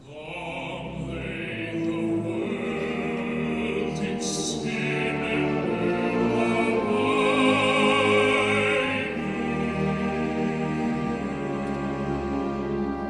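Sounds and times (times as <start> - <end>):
vocal ensemble singing chords: 0.0 - 13.0.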